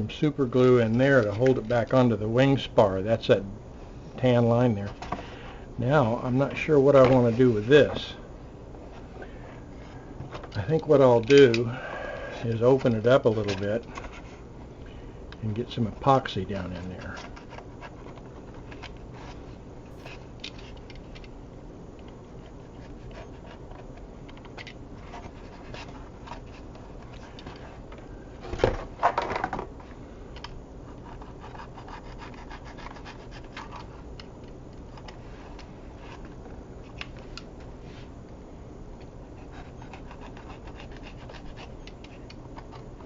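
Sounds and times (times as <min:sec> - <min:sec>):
faint scratching and clicks: 0:00.5 - 0:03.3, 0:08.9 - 0:21.4, 0:22.0 - 0:28.6, 0:29.2 - 0:38.4, 0:39.0 - 0:43.0.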